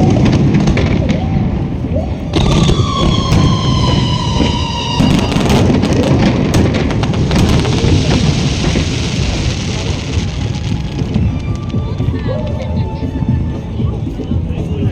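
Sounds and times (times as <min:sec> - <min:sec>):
firework whistle falling: 0:00.0 - 0:12.3
fireworks crackling and banging: 0:00.0 - 0:14.9.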